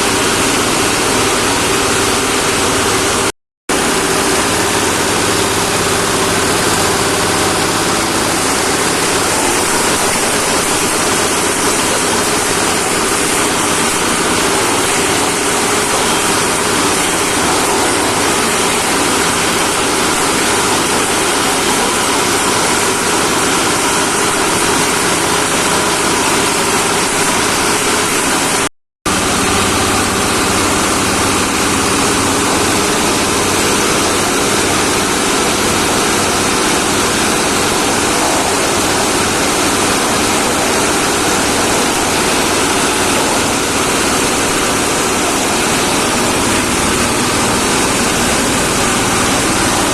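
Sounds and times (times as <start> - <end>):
compost shredder motor humming: 0.0 - 49.9.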